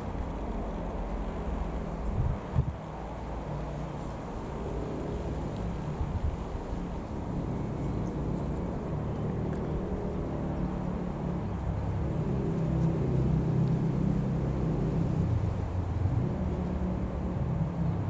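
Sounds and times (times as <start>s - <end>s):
small plane engine droning: 0.0s - 18.0s.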